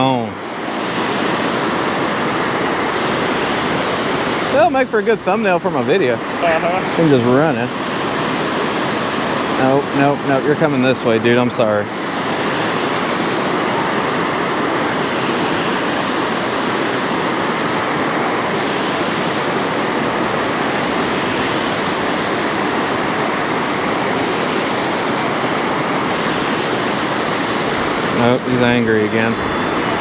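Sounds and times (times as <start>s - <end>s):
water roaring through spillway: 0.0s - 30.0s.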